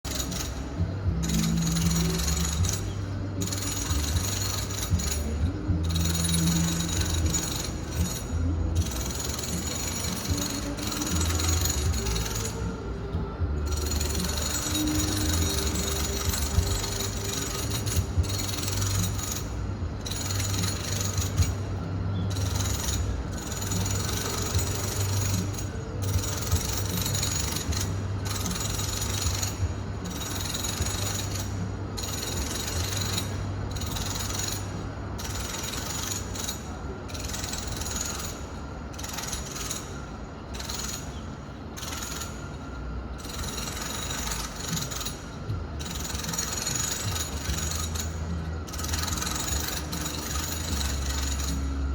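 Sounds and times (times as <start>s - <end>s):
continuous mechanical racket: 0.0s - 51.9s.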